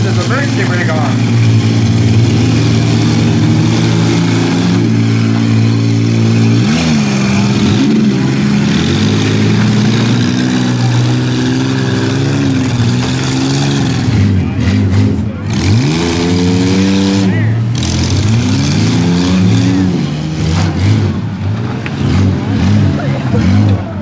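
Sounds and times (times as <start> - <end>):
van engines revving hard: 0.0 - 24.0.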